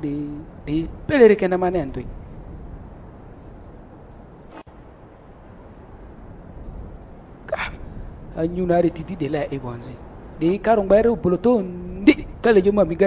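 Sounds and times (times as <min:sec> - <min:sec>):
background hiss: 0:00.0 - 0:13.0
crickets trilling: 0:00.0 - 0:13.0.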